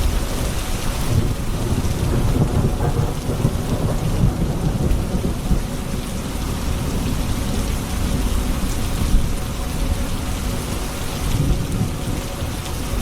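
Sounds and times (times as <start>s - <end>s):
low rumble of thunder: 0.0s - 13.0s
steady rain: 0.0s - 13.0s.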